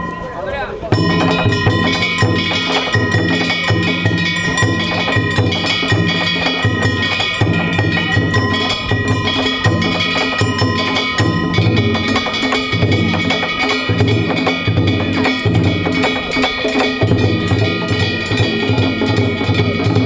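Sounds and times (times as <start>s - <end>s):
small hand gongs clanging: 0.0s - 20.0s
large drum beaten in rhythm: 0.9s - 20.0s.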